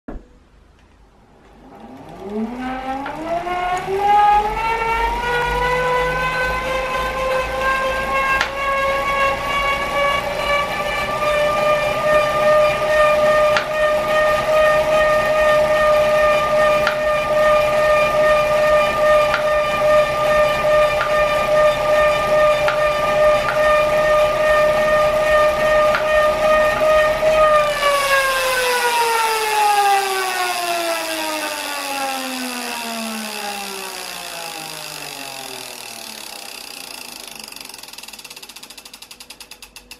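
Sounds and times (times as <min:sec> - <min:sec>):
trainer flywheel whining: 0:01.4 - 0:39.9.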